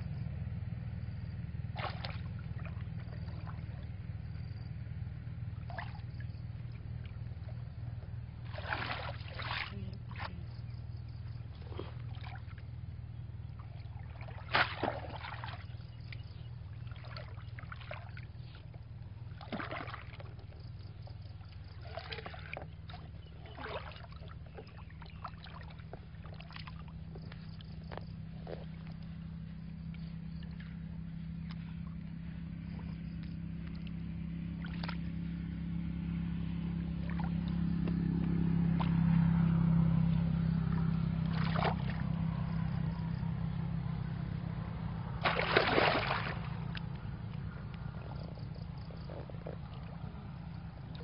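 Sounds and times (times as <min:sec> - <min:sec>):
low rumble: 0:00.0 - 0:51.0
muddy water splashing: 0:01.6 - 0:51.0.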